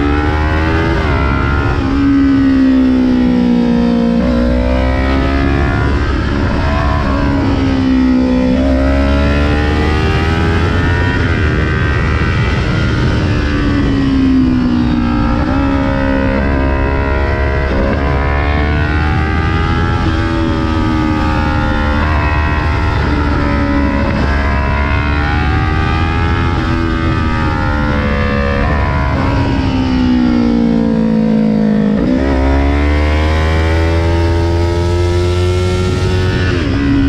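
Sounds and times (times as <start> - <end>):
low wind rumble: 0.0 - 37.0
motorcycle engine revving: 0.0 - 37.0.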